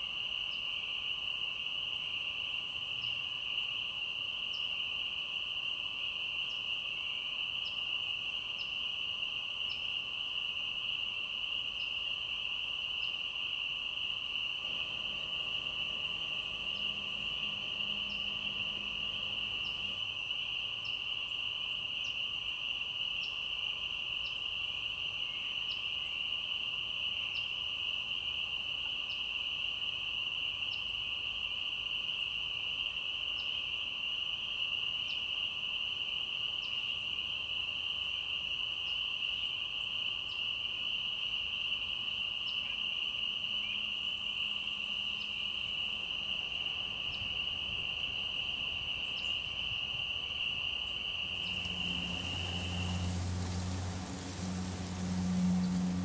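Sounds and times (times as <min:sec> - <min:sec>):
chorus of insects: 0:00.0 - 0:56.0.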